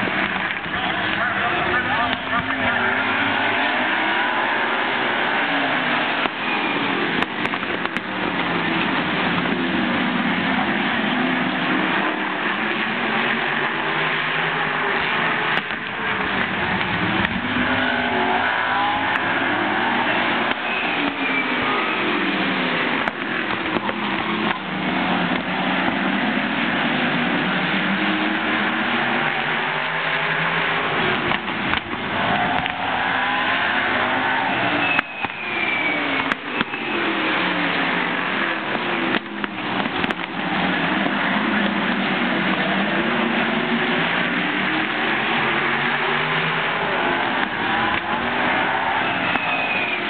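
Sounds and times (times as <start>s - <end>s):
race car engines passing: 0.0s - 50.0s.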